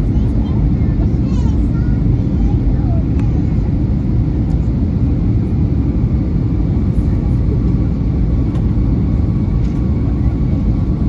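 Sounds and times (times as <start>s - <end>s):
airliner cabin engine noise: 0.0s - 11.0s.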